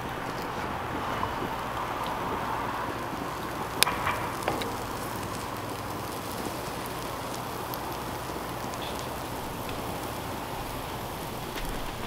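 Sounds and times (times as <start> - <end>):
sandwich sizzling in skillet: 0.0 - 12.0.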